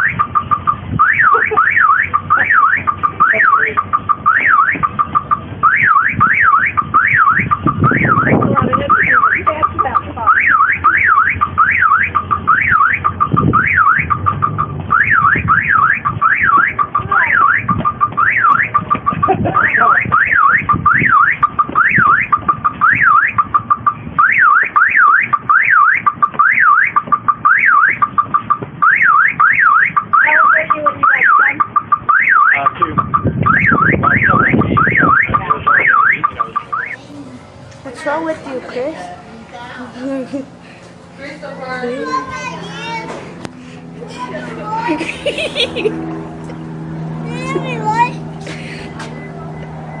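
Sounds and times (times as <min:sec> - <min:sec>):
car alarm siren warbling: 0:00.0 - 0:38.3, 0:44.8 - 0:50.0.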